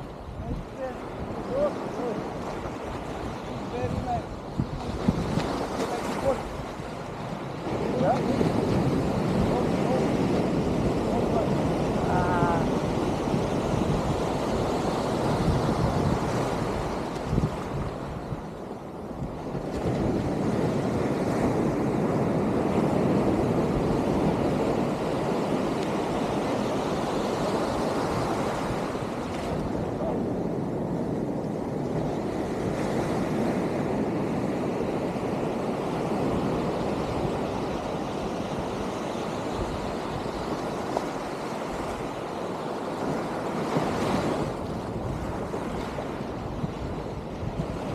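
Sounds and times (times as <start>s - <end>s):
ocean surf washing on shore: 0.0s - 47.9s
wind on microphone: 0.0s - 47.9s.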